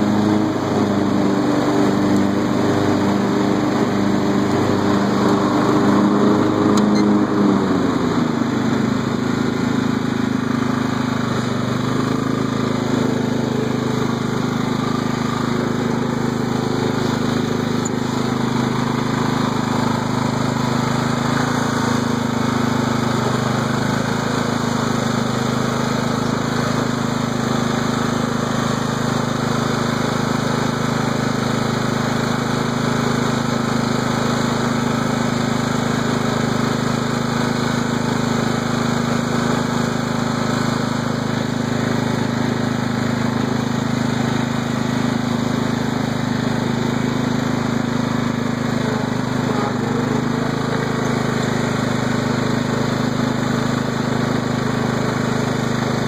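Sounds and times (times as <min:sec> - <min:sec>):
riding lawn tractor engine running: 0:00.0 - 0:56.0.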